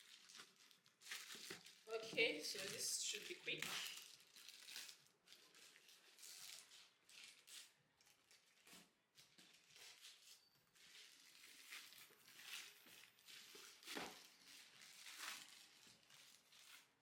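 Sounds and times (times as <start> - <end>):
packaging rustling and scraping: 0.0 - 17.0.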